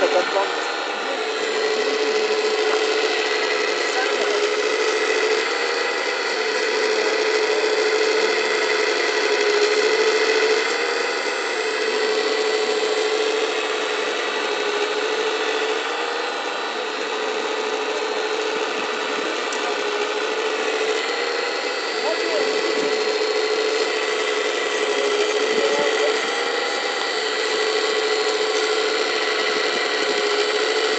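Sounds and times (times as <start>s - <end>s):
hydraulic pump whining: 0.0s - 30.9s.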